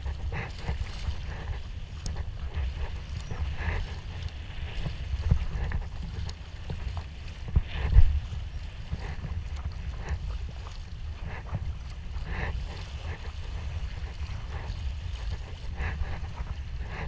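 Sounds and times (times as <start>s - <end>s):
paddle splashes: 0.0s - 17.0s
water slapping against hull: 0.0s - 17.0s.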